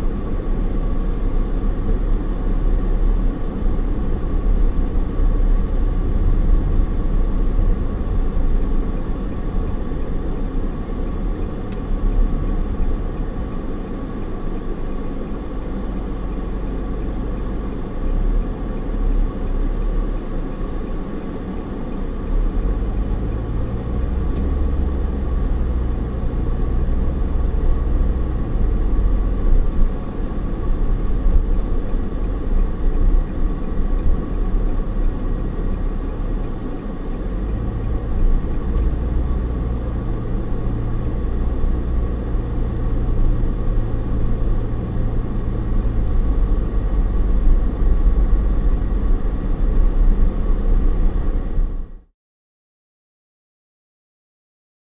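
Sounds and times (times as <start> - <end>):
car road and engine noise: 0.0 - 52.1.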